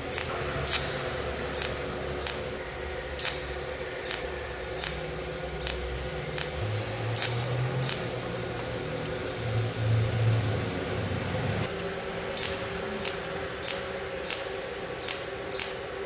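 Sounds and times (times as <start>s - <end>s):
welding machine pulse clicks: 0.0s - 2.6s, 3.2s - 9.3s, 11.6s - 16.0s
machine hum: 0.0s - 16.0s.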